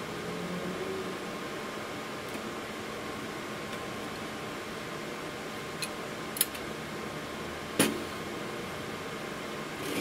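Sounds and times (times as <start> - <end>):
room noise: 0.0 - 10.0.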